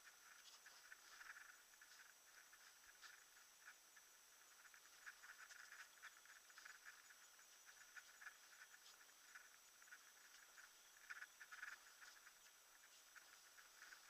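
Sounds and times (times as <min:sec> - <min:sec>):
faint crackling ticks: 0:00.0 - 0:14.0
thin high whine: 0:00.0 - 0:14.0.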